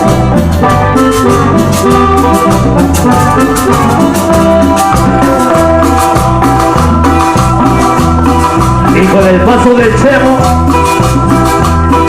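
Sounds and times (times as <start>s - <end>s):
live cumbia band: 0.0s - 12.0s.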